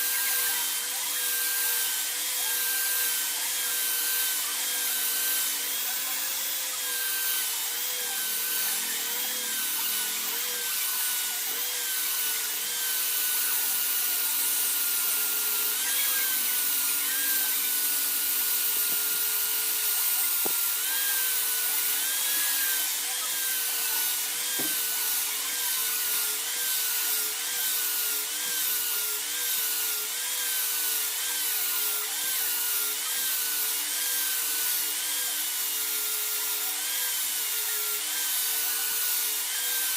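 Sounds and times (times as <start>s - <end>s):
power tool grinding: 0.0s - 39.9s.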